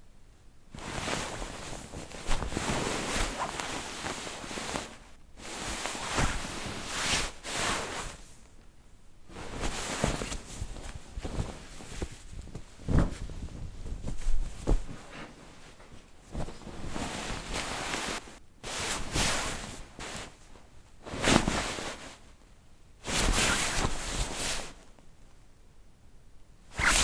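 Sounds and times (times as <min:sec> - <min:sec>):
bed sheet rustling: 0:00.7 - 0:08.4, 0:09.3 - 0:22.4, 0:23.0 - 0:25.0, 0:26.7 - 0:27.0.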